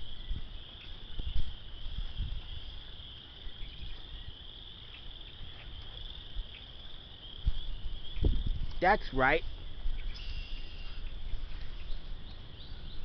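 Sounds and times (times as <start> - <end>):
high-pitched insect chorus: 0.0 - 13.0
wind buffeting microphone: 0.0 - 13.0.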